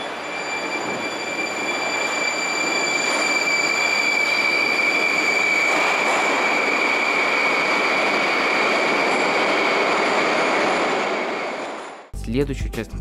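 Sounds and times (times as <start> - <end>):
high steady train whine: 0.0 - 12.1
train wheels rumbling on rails: 0.0 - 12.1.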